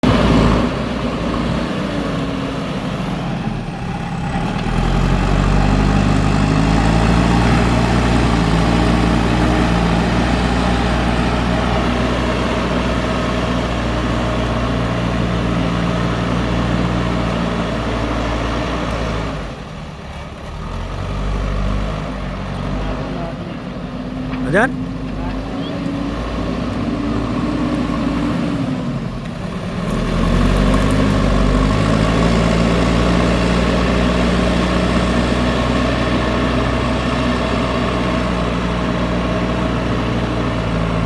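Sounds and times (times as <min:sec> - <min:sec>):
diesel engine under load: 0:00.0 - 0:41.0.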